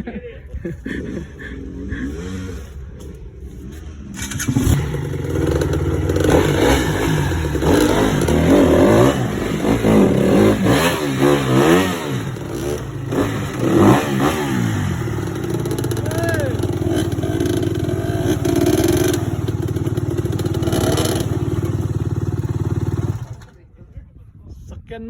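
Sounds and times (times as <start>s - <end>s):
dirt bike engine revving: 0.8s - 23.6s.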